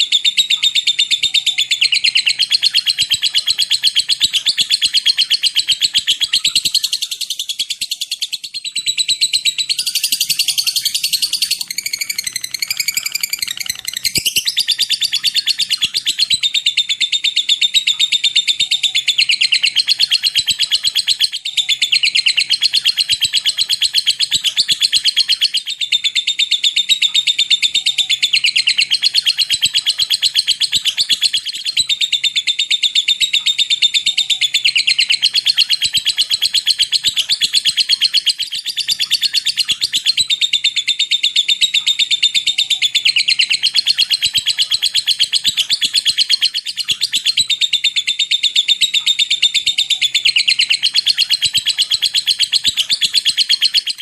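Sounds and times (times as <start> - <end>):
lovebird chattering trill: 0.0 - 54.0
wavering whistled bird notes: 0.0 - 54.0.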